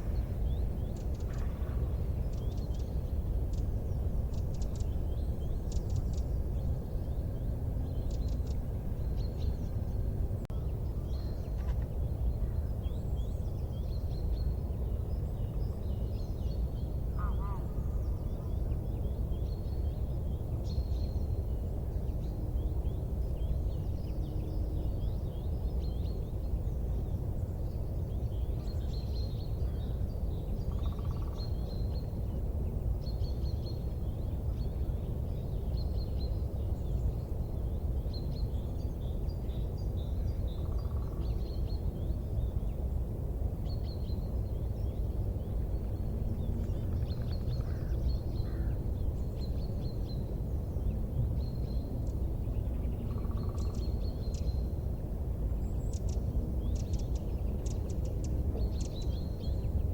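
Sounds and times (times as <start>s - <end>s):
small birds chirping: 0.0s - 42.9s, 43.5s - 59.9s
steady low rumble: 0.0s - 59.9s.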